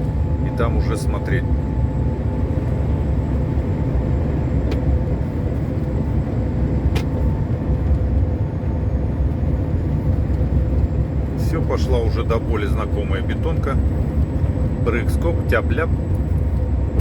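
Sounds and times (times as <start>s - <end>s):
truck engine rumble: 0.0s - 17.0s
tyres on highway: 0.0s - 17.0s.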